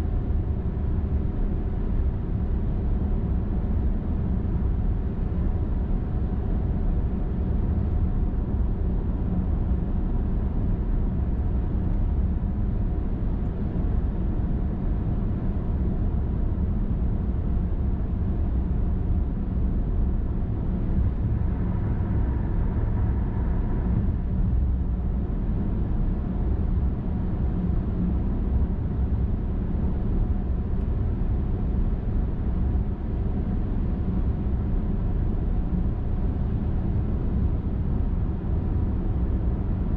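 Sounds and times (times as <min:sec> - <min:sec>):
car road noise on highway: 0:00.0 - 0:39.9.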